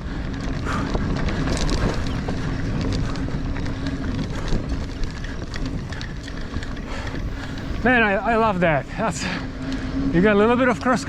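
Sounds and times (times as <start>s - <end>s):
wind on microphone: 0.0s - 10.3s
steady low hum: 0.0s - 10.7s
bike rattling and clicking: 0.0s - 11.0s
bike tyres rumbling on dirt: 0.0s - 11.0s.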